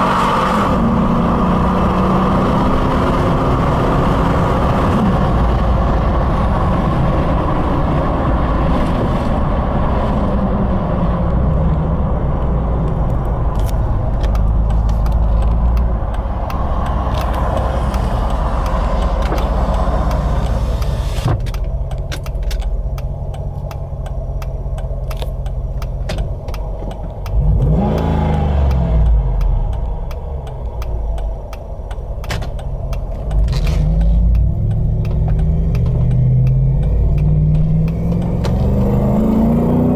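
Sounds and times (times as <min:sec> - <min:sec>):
car engine while driving: 0:00.0 - 0:39.9
road noise: 0:00.0 - 0:39.9.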